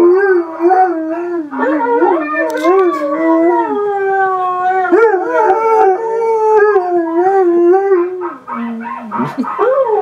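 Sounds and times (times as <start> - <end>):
dog howling: 0.0 - 10.0.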